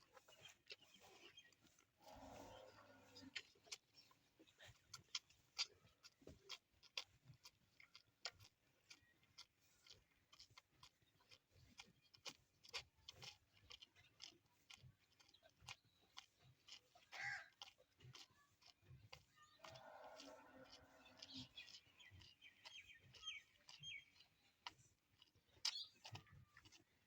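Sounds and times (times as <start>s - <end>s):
animal chewing: 0.0s - 27.0s.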